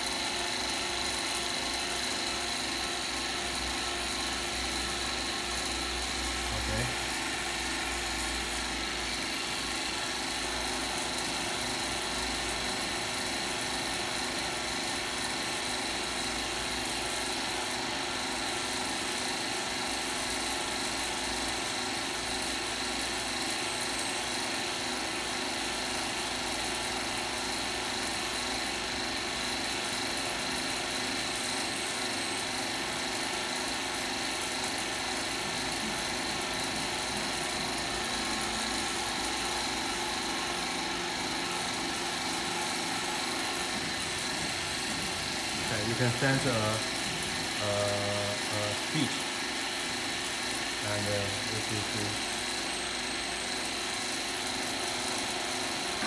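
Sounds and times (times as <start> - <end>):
mechanical hum of machinery: 0.0 - 56.0.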